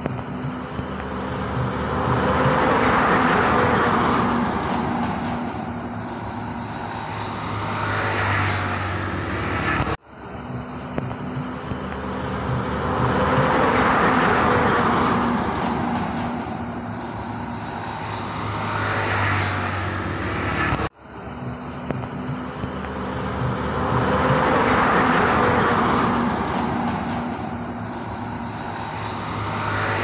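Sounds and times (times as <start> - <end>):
traffic passing by: 0.0 - 30.0.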